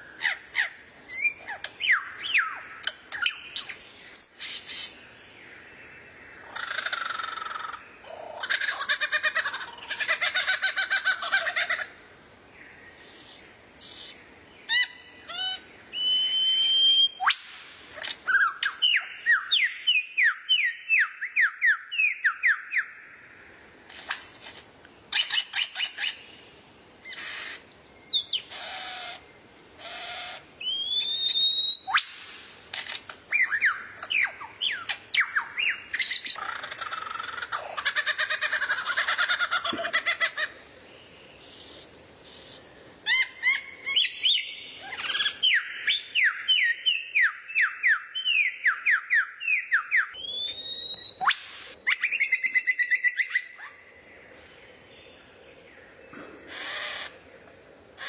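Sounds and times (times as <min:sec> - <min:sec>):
songbird song: 0:00.0 - 0:58.0.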